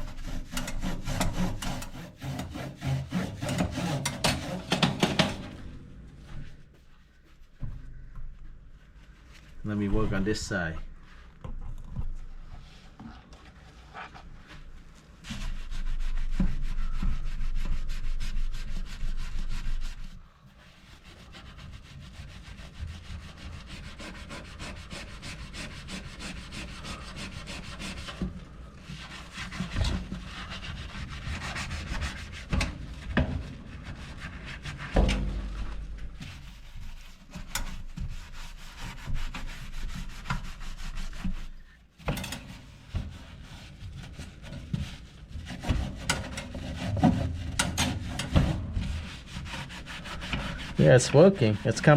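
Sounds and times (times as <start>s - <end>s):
rubbing and scraping: 0.0s - 51.9s.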